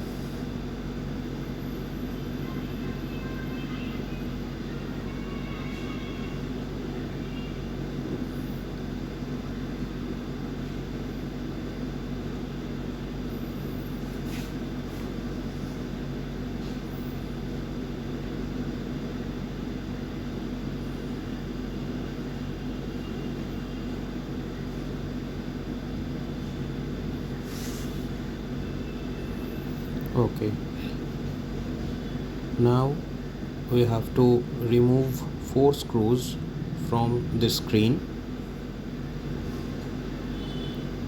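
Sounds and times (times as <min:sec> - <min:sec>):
low droning hum: 0:00.0 - 0:41.0.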